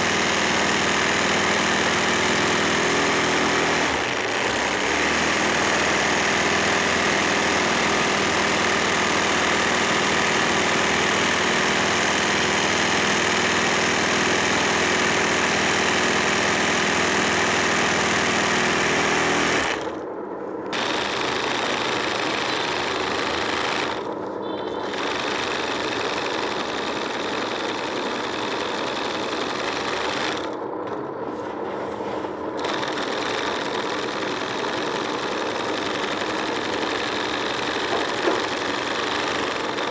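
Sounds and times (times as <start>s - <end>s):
electric sewing machine stitching: 0.0s - 20.0s, 20.7s - 30.6s, 32.6s - 39.9s.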